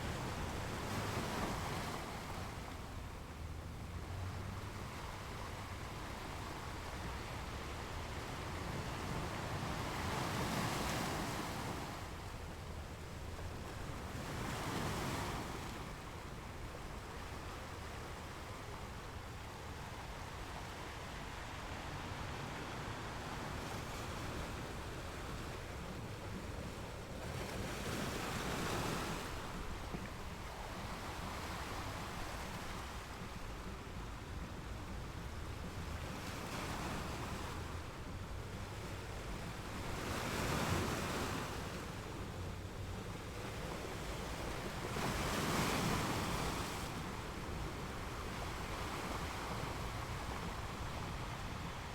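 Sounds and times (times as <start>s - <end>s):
background rush of surf: 0.0s - 51.9s.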